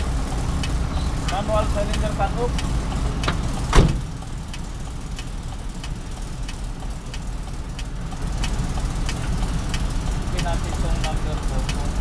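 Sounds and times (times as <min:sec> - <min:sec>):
diesel truck engine idling: 0:00.0 - 0:12.0
light ticking: 0:00.0 - 0:12.0.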